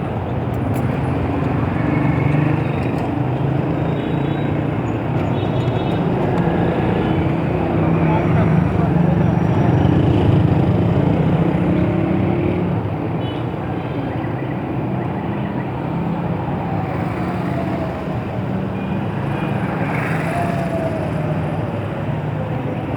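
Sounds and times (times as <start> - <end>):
road traffic: 0.0 - 22.9.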